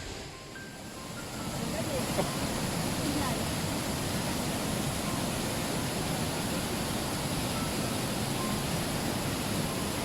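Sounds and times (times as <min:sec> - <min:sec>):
falling water rushing: 0:00.0 - 0:10.0.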